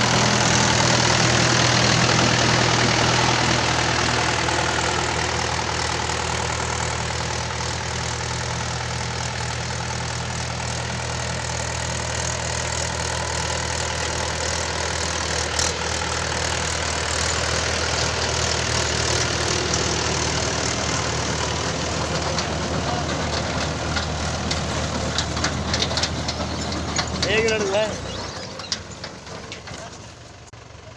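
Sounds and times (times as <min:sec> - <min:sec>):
harvester clattering: 0:00.0 - 0:30.9
tractor diesel engine running: 0:00.0 - 0:30.9.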